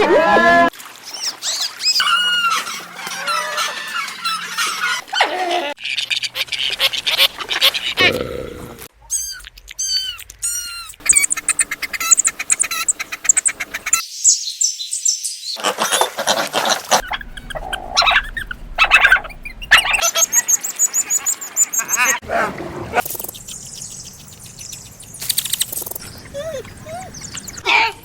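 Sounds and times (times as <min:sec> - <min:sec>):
animal chirping and peeping calls: 0:01.0 - 0:08.3, 0:09.0 - 0:22.2, 0:23.0 - 0:28.0.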